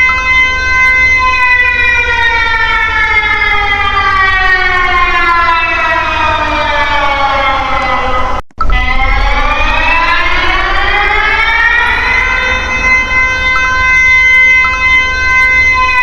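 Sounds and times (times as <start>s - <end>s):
alarm siren sliding down in pitch: 0.0s - 16.0s.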